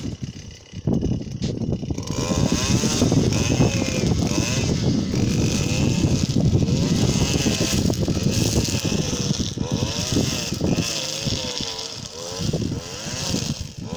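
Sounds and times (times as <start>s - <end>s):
brush cutter engine running: 0.0s - 13.9s.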